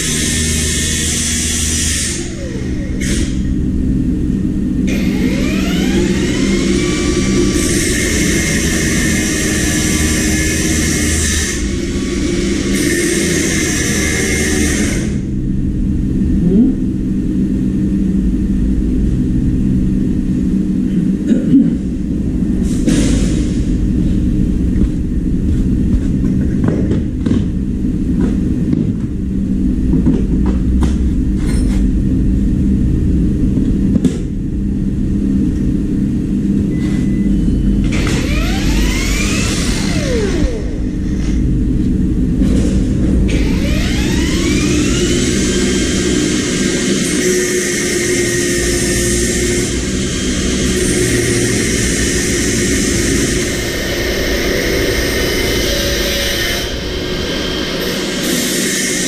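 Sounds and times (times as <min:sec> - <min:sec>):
low mechanical rumble: 0:00.0 - 0:59.0.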